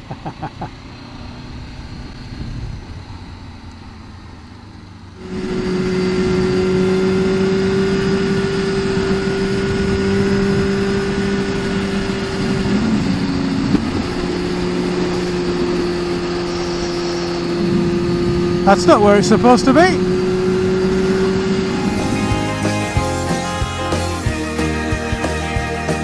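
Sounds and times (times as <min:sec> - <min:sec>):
road and wind noise: 0:00.0 - 0:24.4
motorcycle engine drone: 0:00.0 - 0:26.0.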